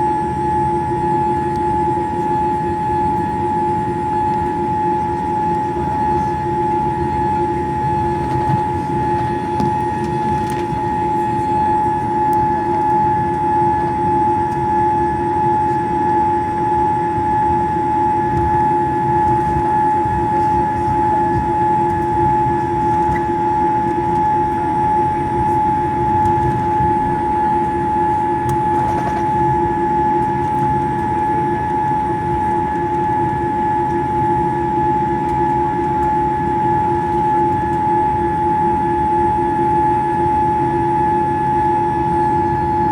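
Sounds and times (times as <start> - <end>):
airplane cabin roar: 0.0 - 42.9
constant high whine: 0.0 - 42.9.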